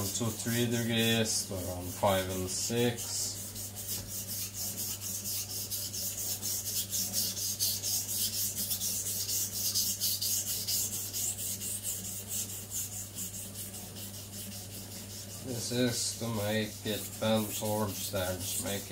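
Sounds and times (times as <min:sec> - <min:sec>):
knife scraping on whetstone: 0:00.0 - 0:18.9.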